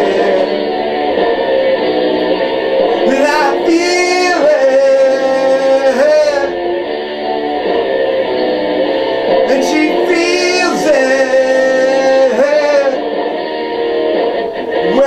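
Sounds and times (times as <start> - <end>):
song with sung vocal: 0.0 - 7.4, 9.0 - 14.1, 14.8 - 15.0.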